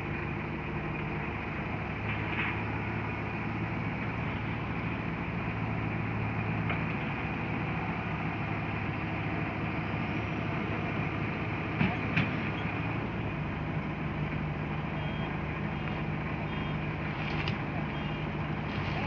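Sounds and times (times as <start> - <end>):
engine running with low hum: 0.0 - 19.0.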